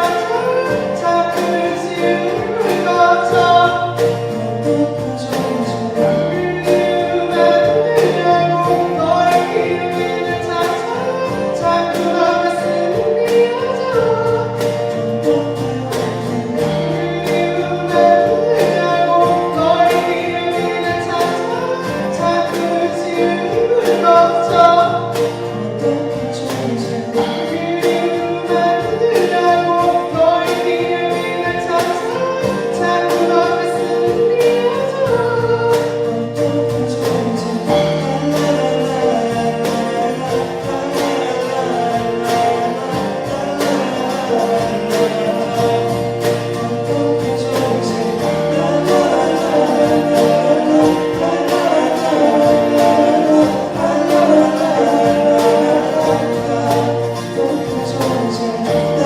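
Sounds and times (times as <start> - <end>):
acoustic guitar: 0.0 - 59.0
keyboard: 0.0 - 59.0
person singing: 0.0 - 59.0
piano: 0.0 - 59.0.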